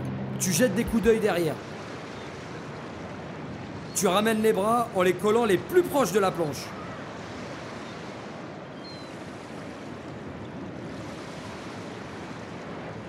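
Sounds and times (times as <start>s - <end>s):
waves breaking: 0.0s - 13.0s.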